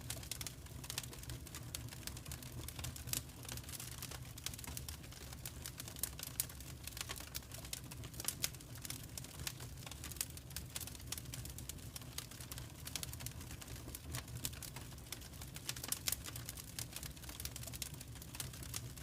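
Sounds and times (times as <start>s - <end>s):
fireplace fire crackling and popping: 0.0s - 19.0s.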